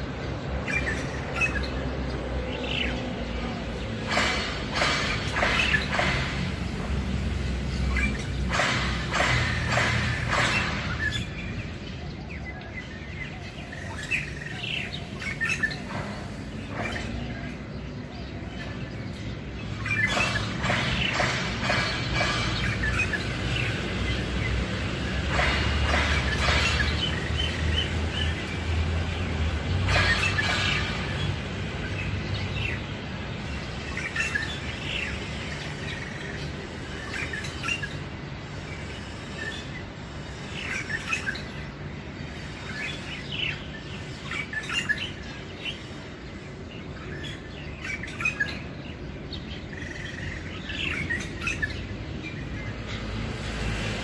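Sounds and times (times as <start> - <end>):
bird chirping and twittering: 0.0 - 54.0.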